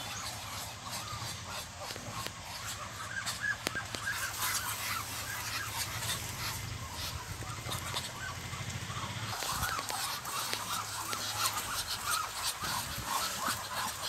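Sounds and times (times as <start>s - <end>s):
ducks chirping softly: 0.0s - 14.0s
steady low hum: 0.0s - 14.0s.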